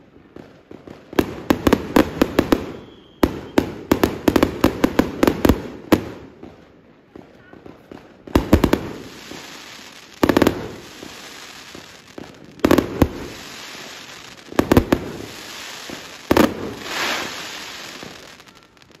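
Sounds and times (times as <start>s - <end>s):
firework bangs: 0.0s - 19.0s
firework crackle: 0.0s - 19.0s.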